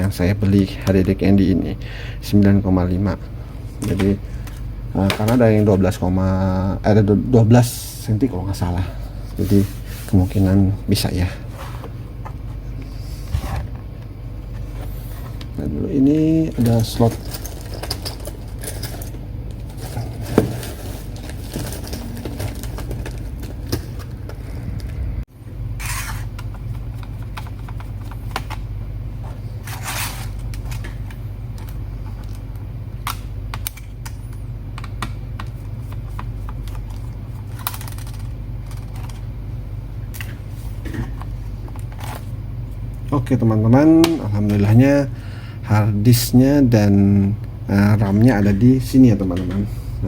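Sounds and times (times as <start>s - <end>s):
low hum: 0.8s - 50.0s.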